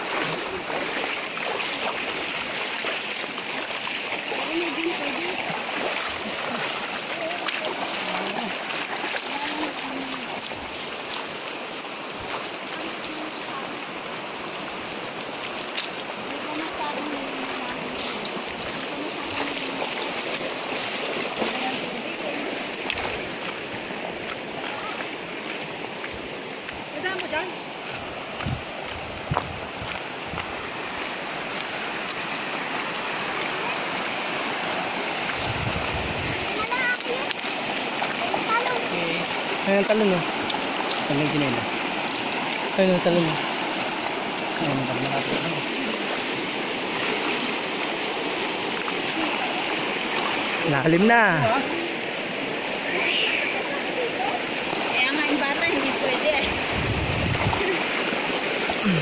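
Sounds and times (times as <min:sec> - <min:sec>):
water rushing over rapids: 0:00.0 - 0:59.0.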